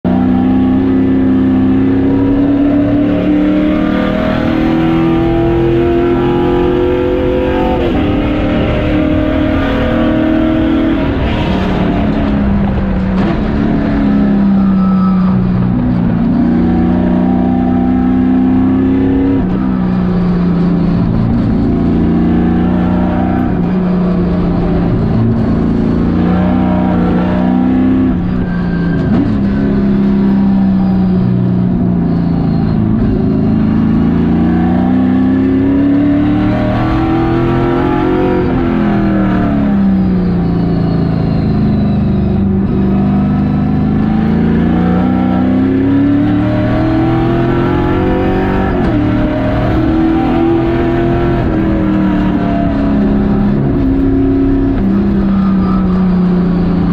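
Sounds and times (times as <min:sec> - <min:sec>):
race car engine running hard: 0:00.0 - 0:56.9
road and chassis rumble: 0:00.0 - 0:56.9.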